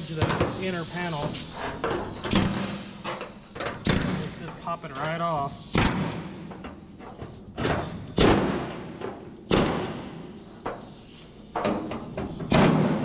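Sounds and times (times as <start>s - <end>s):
pneumatic air hammer bursts: 0.0s - 13.0s.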